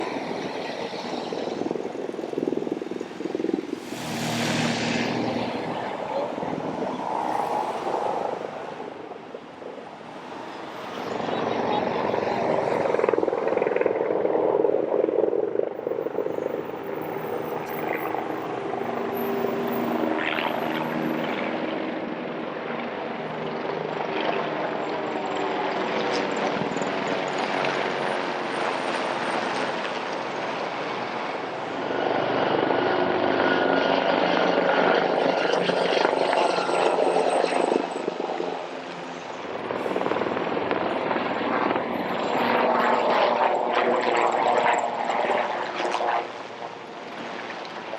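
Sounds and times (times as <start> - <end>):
helicopter rotors flying over: 0.0 - 47.9.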